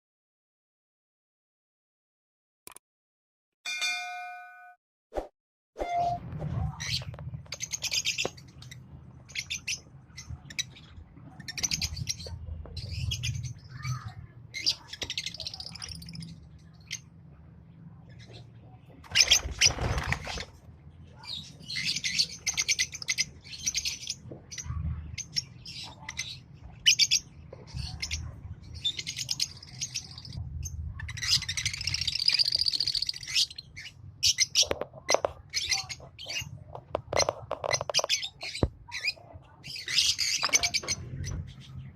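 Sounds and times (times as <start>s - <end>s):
lovebirds chirping and chattering: 6.4s - 41.9s.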